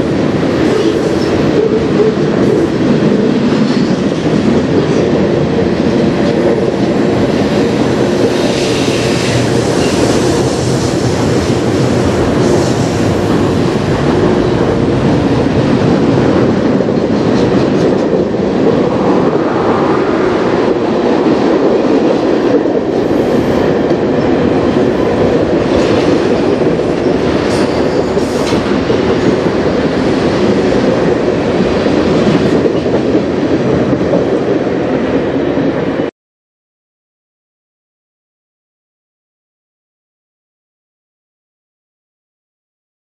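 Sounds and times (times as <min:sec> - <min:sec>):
train wheels rumbling on track: 0:00.0 - 0:36.1.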